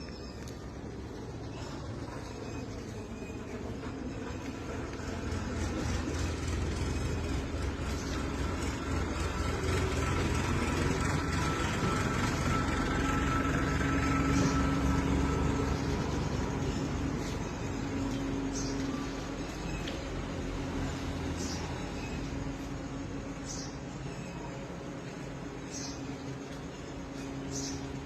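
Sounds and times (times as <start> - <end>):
motor humming with high whine: 0.0 - 28.0.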